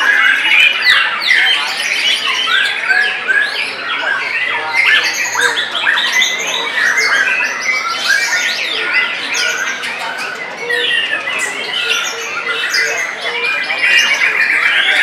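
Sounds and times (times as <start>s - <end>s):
birds singing whistled song: 0.0s - 15.0s.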